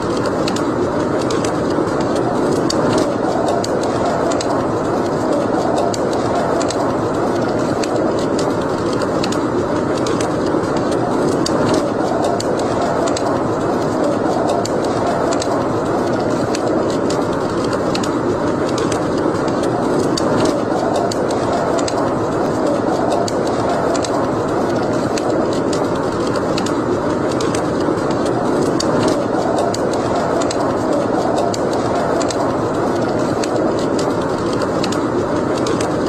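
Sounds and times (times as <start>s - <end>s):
fire crackling in a fireplace: 0.0s - 36.0s.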